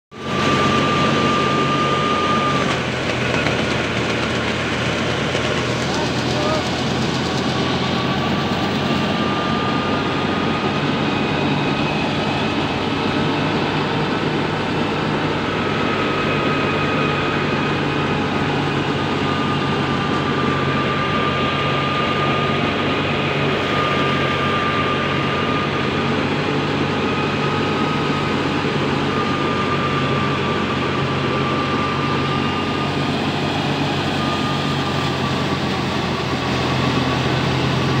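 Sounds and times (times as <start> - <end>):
faint high whine: 0.1 - 38.0
tractor engine and thresher drone: 0.1 - 38.0.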